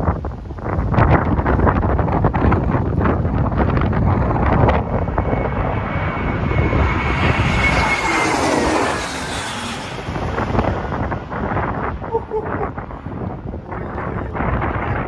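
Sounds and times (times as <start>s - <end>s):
wind rumble on microphone: 0.0s - 15.0s
high engine whine: 0.2s - 15.0s
jet engines roaring: 0.2s - 15.0s.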